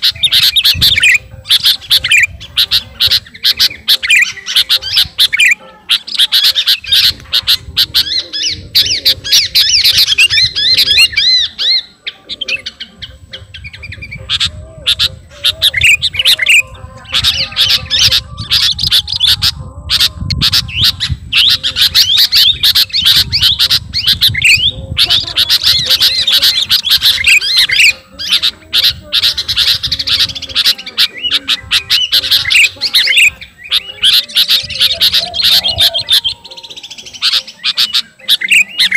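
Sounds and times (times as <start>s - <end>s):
bulbul singing rapid chattering: 0.0s - 38.9s.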